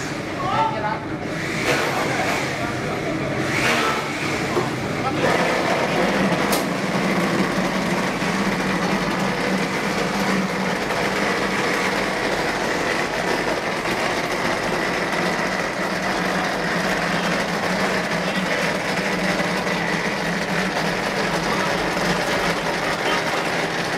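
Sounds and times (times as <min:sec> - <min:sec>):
rendering machine motor hum: 0:00.0 - 0:23.9.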